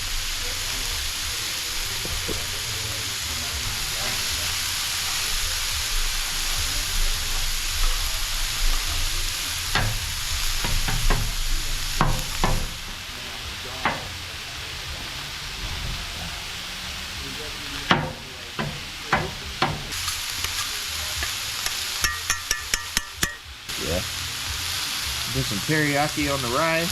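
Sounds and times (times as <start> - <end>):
food sizzling on griddle: 0.0 - 26.9.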